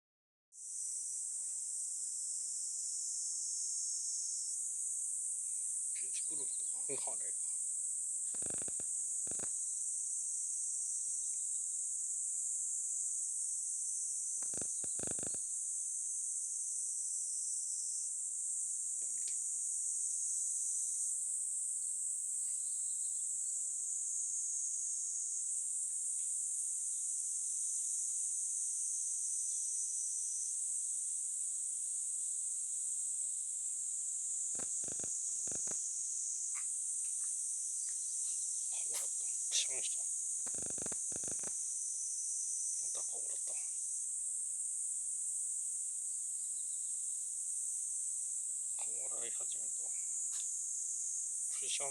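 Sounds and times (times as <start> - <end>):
insect chorus chirring: 0.6 - 51.9.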